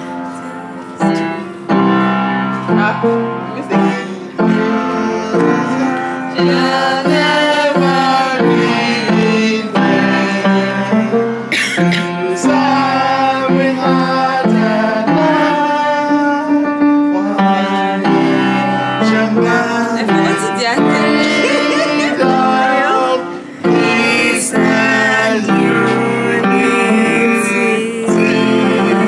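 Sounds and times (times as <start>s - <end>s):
person singing sliding notes: 0.0s - 29.0s
sustained instrumental chords: 0.0s - 29.0s.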